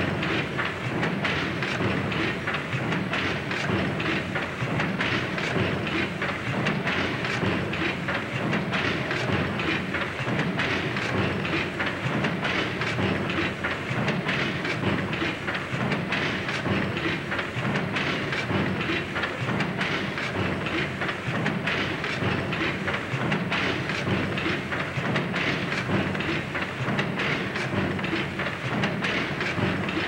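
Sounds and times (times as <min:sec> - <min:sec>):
steam engine rhythmic clatter: 0:00.0 - 0:30.0.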